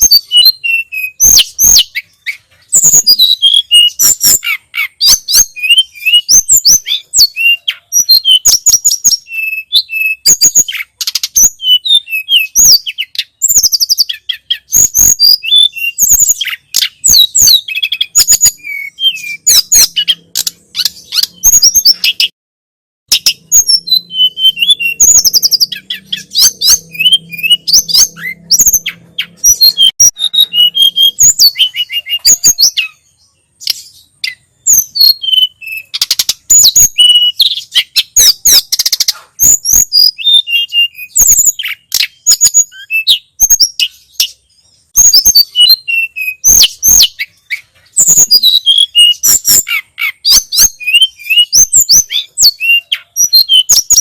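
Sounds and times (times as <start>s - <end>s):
songbird singing: 0.0s - 22.4s, 23.1s - 54.0s.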